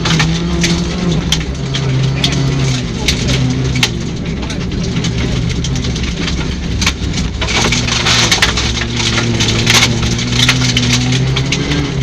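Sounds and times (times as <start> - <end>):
car engine running: 0.0 - 12.0
gravel crunching under tyres: 0.0 - 12.0
stones rattling against car: 0.0 - 12.0.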